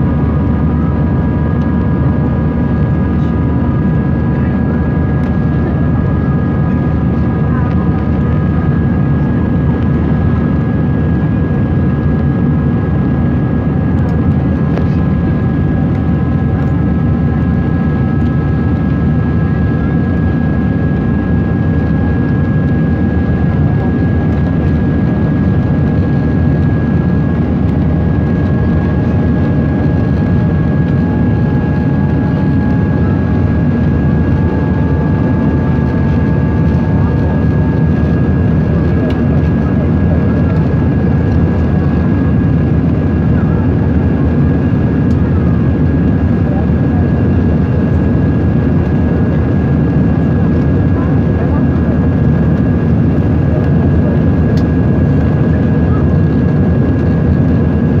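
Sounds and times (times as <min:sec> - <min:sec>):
airplane cabin roar: 0:00.0 - 0:58.0
high engine whine: 0:00.0 - 0:58.0.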